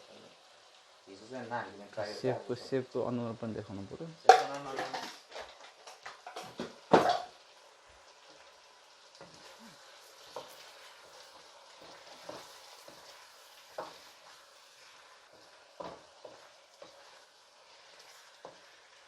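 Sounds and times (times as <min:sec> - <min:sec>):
curry sizzling in frying pan: 0:00.0 - 0:19.0.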